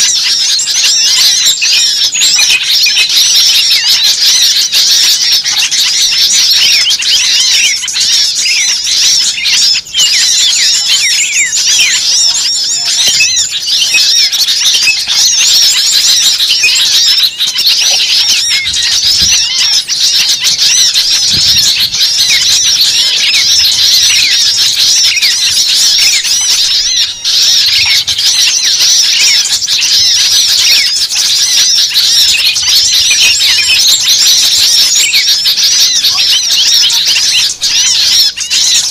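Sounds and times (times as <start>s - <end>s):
small birds chirping chorus: 0.0s - 38.9s.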